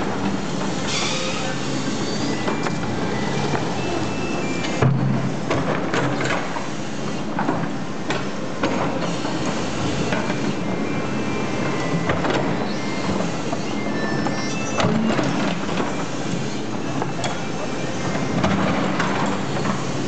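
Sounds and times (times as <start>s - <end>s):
excavator diesel engine running: 0.0s - 5.6s, 6.6s - 20.0s.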